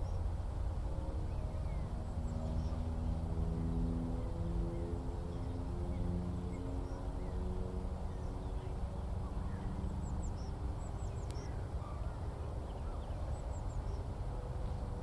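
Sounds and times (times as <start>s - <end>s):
skylarks singing: 0.0s - 14.8s
low engine drone: 0.0s - 15.0s.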